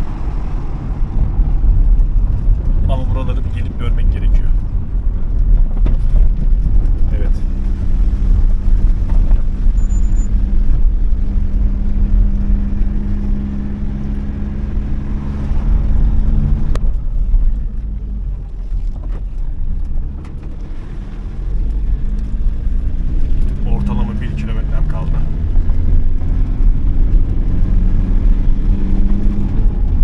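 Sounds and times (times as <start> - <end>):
vehicle engine hum and road noise: 0.0 - 30.0.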